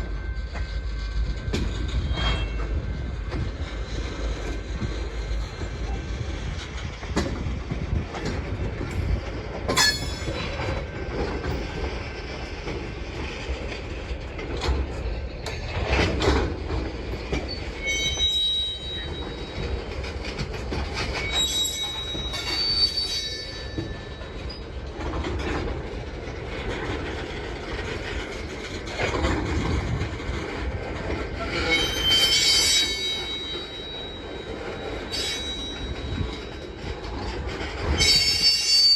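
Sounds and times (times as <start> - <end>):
train wheels squealing: 0.0 - 13.6, 14.7 - 38.9
freight train rumbling past: 0.0 - 38.9
rail clatter: 0.0 - 38.9.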